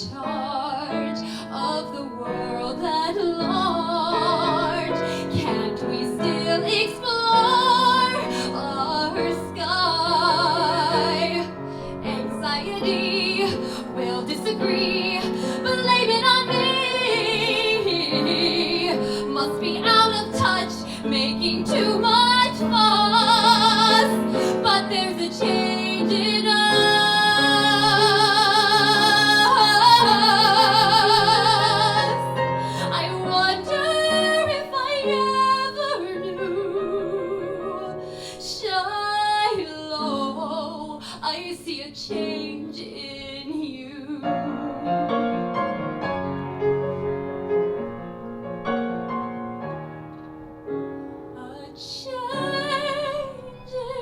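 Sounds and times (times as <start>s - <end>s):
woman singing with vibrato: 0.0s - 45.3s, 51.4s - 54.0s
piano accompaniment: 0.0s - 54.0s.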